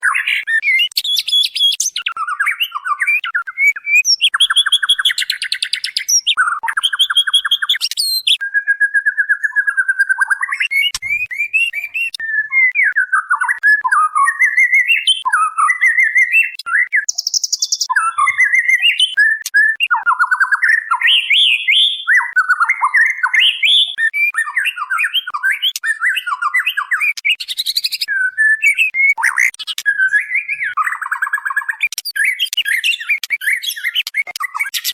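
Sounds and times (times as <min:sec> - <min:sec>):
bird whistling and chattering: 0:00.0 - 0:34.9
sharp bird ticks: 0:00.2 - 0:08.4, 0:09.5 - 0:12.2, 0:16.2 - 0:24.1, 0:24.7 - 0:34.9.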